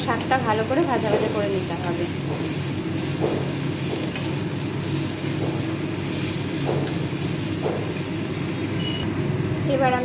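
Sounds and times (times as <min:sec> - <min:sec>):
greens sizzling in oil: 0:00.0 - 0:09.2.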